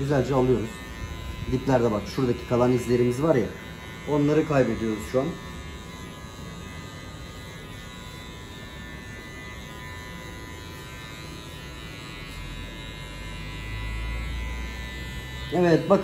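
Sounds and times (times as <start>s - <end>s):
deep low hum: 0.0s - 4.2s, 5.3s - 15.5s
electric hair clipper running: 0.0s - 16.0s.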